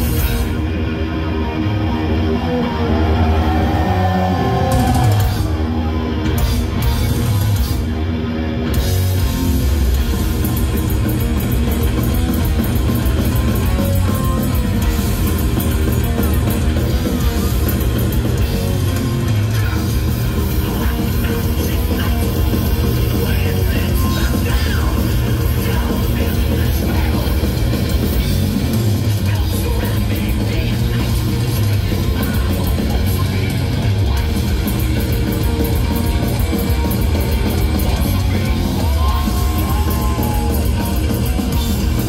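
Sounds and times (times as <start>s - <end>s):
distorted electric guitar riffing: 0.0s - 42.0s
heavy metal band playing live: 0.0s - 42.0s.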